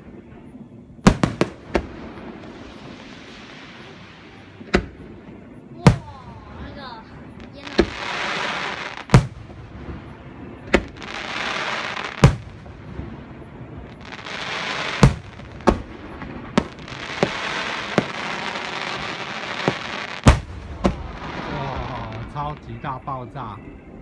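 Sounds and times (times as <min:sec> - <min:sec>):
firework bangs: 0:00.0 - 0:23.1
hissing crackle of fireworks: 0:00.0 - 0:24.0.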